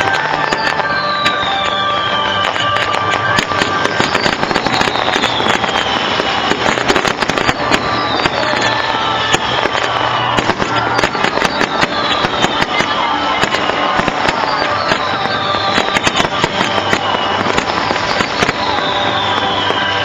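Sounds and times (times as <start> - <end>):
fireworks crackling and popping: 0.0 - 20.0.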